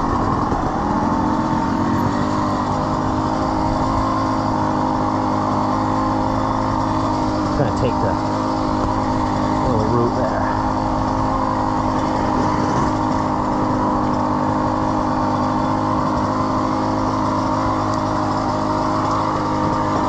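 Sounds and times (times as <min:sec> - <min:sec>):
two-stroke dirt bike engine: 0:00.0 - 0:20.0.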